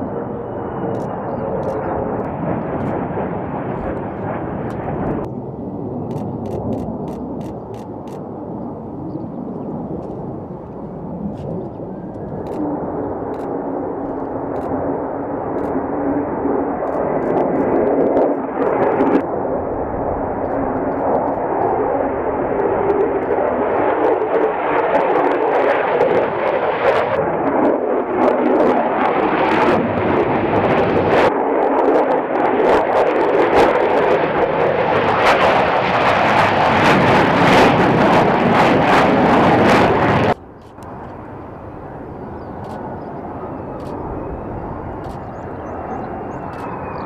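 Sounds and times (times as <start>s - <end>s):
jet engine crackles: 0.0s - 5.3s, 6.0s - 31.6s, 32.5s - 47.0s
jet engine roaring overhead: 0.0s - 47.0s.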